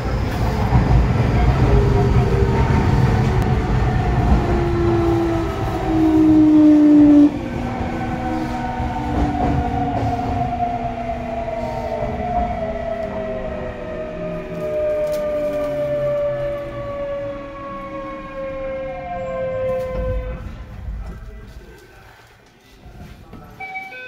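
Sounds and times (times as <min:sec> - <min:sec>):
subway train inverter whine: 0:00.0 - 0:21.3
train low rumble: 0:00.0 - 0:23.8.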